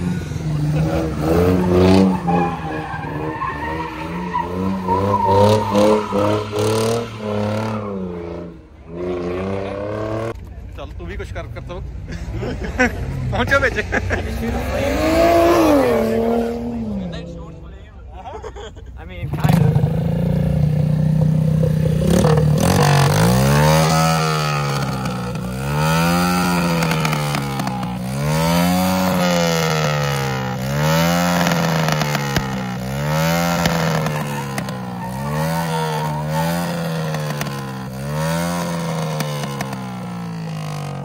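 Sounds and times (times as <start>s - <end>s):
car engine revving: 0.0s - 10.4s, 14.3s - 17.6s, 19.3s - 41.0s.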